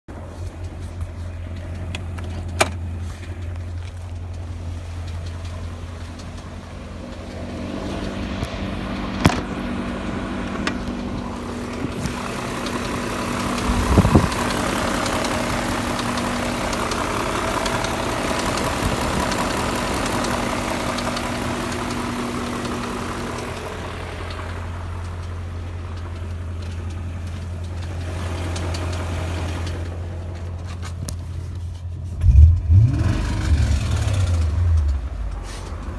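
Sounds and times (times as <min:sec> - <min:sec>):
engine idling with knocking: 0:00.1 - 0:35.9.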